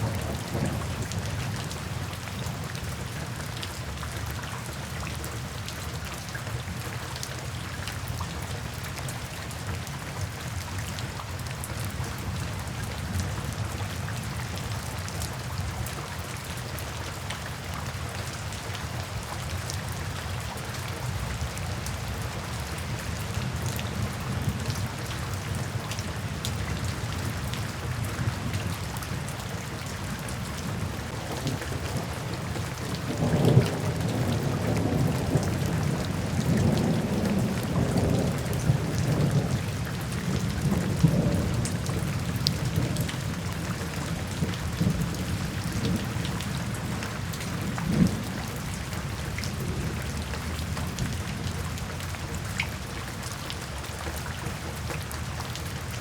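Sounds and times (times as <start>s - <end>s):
rain splashing into puddles: 0.0s - 56.0s.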